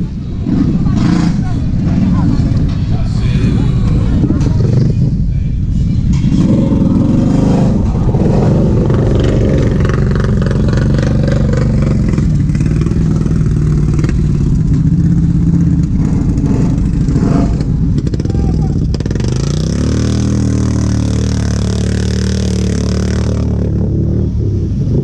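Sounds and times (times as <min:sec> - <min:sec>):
atv engine revving: 0:00.0 - 0:05.3, 0:05.9 - 0:25.0.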